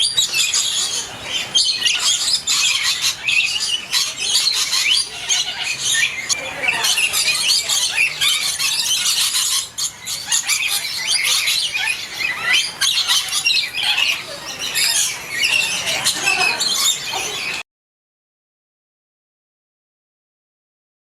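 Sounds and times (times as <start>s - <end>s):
parrot squawking and screeching: 0.0s - 17.6s.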